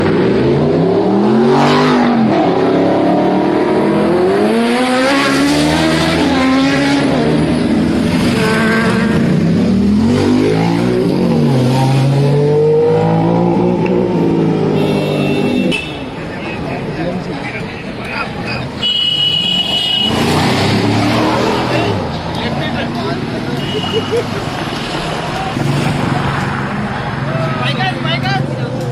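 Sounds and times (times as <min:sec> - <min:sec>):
sports car engines revving: 0:00.0 - 0:28.9.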